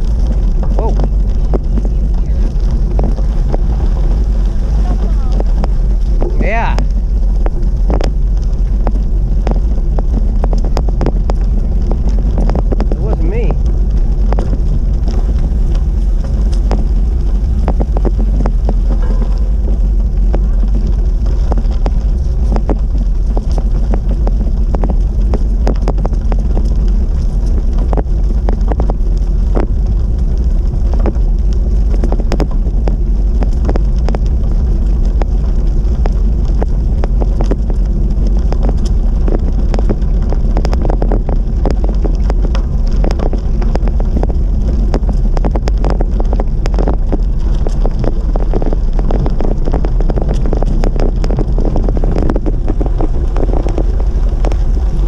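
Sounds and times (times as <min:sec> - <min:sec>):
small irregular clicks and crackles: 0:00.0 - 0:55.0
wind buffeting microphone: 0:00.0 - 0:55.0.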